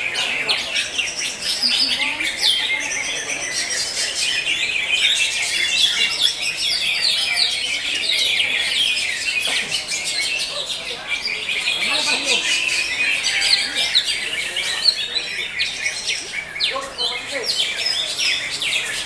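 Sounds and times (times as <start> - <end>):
other songbirds singing: 0.0 - 19.0.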